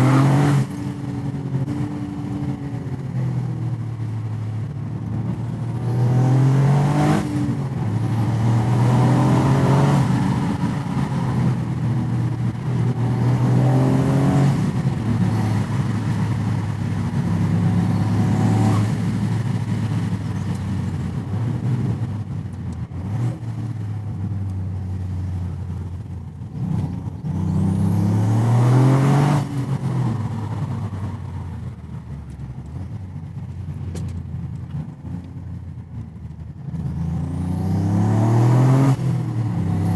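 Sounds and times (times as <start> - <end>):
car engine accelerating hard: 0.0 - 3.0, 3.7 - 25.0, 26.5 - 31.6, 36.6 - 39.9.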